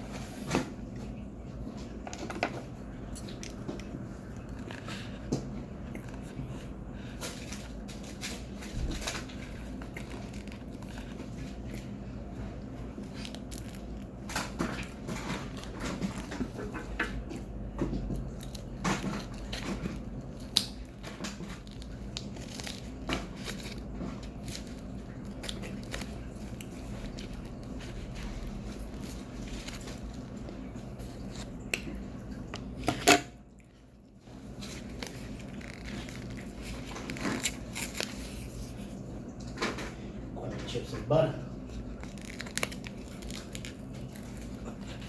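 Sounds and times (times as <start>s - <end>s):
steady low hum: 0.0s - 45.0s
person chewing and crunching: 3.2s - 32.9s, 34.4s - 38.6s, 41.7s - 45.0s.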